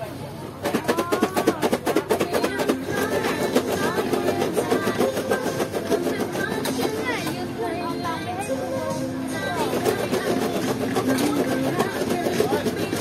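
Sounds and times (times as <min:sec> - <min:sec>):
background music: 0:01.6 - 0:13.0.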